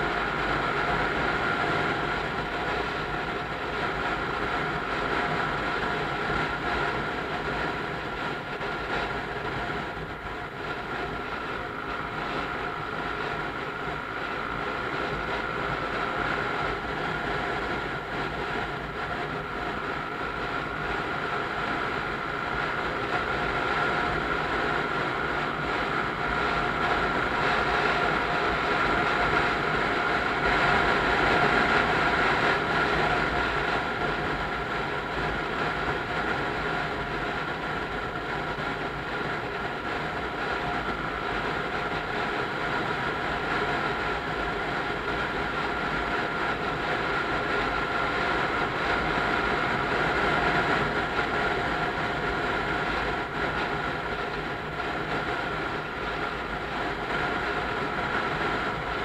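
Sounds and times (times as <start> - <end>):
motorcycle engine whine: 0.0 - 59.0.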